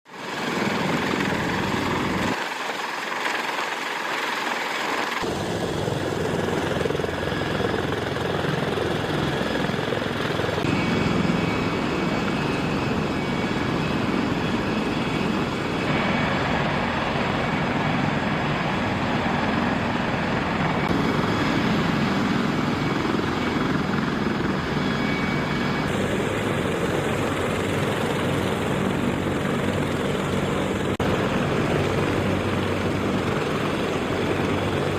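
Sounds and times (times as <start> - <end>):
helicopter rotors and engines: 0.1 - 34.9.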